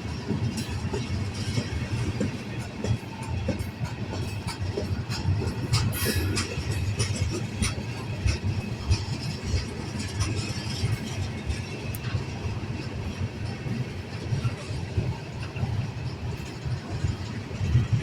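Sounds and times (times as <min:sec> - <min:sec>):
freight train cars rumbling: 0:00.0 - 0:18.0.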